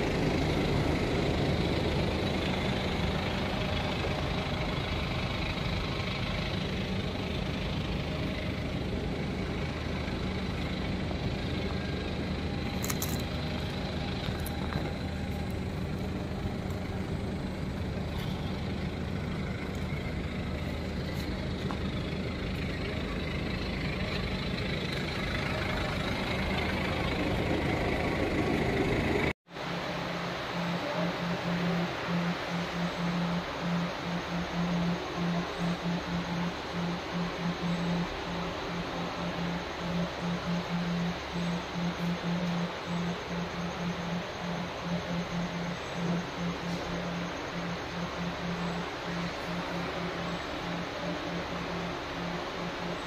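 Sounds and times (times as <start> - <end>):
engine idling: 0.0 - 53.0.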